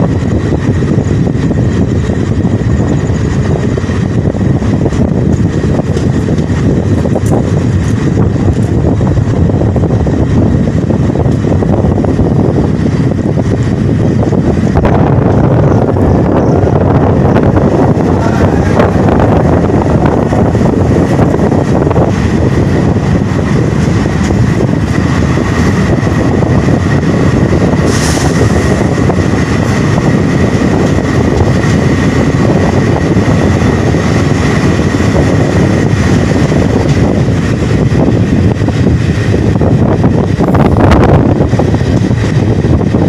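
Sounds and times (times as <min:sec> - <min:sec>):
train wheels rumbling on rails: 0:00.0 - 0:43.0
wind buffeting microphone: 0:00.0 - 0:43.0.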